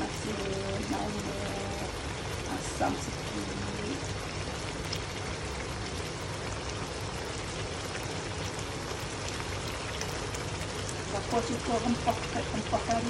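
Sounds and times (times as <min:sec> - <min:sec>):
curry simmering in a wok: 0:00.0 - 0:13.0.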